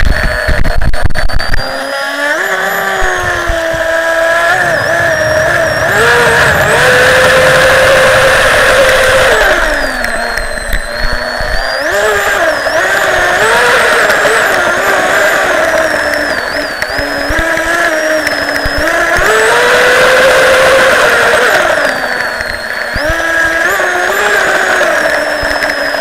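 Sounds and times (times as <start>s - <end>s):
model boat motor whining: 0.0s - 26.0s.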